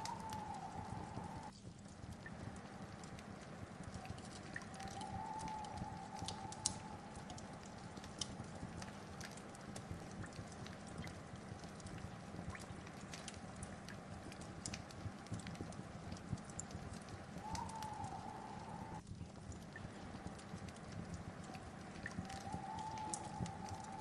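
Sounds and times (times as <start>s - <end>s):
fire low hiss: 0.0s - 24.0s
wood fire crackling and popping: 0.0s - 24.0s.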